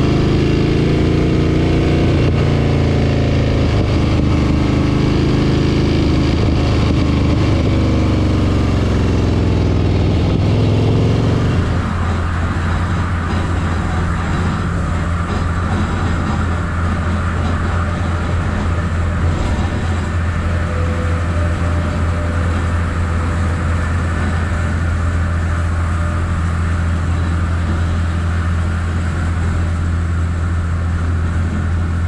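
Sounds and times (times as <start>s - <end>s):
diesel engine drone: 0.0s - 32.0s
road and rain hiss: 0.0s - 32.0s.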